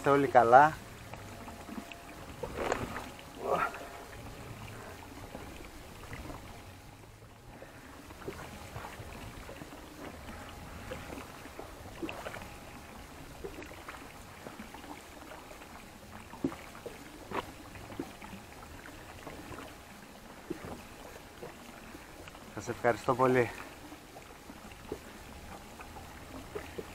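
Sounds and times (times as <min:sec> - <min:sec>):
water lapping against boat hull: 0:00.0 - 0:26.9.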